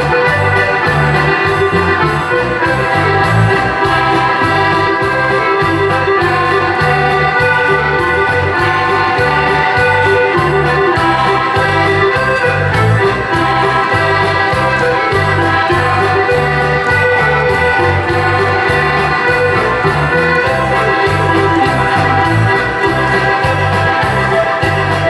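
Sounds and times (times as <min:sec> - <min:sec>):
folk dance music: 0:00.0 - 0:25.0.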